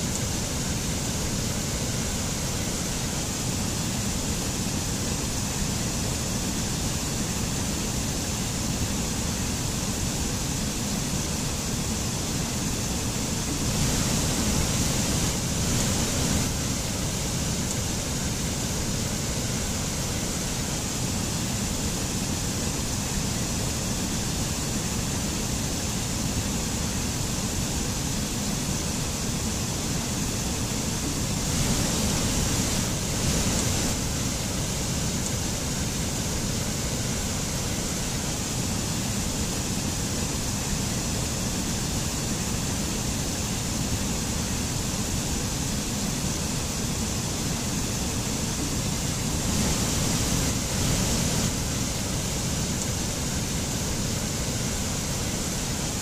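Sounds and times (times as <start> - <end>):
waterfall rushing over rocks: 10.8 - 56.0.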